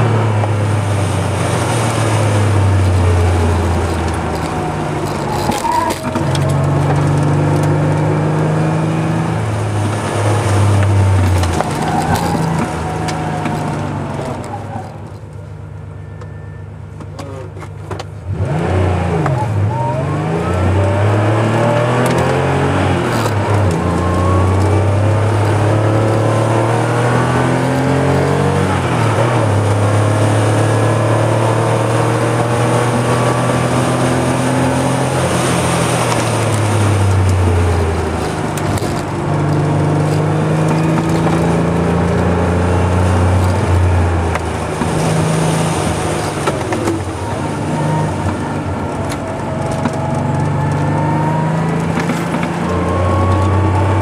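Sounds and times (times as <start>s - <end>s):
car engine accelerating through gears: 0.0s - 15.2s, 18.2s - 54.0s.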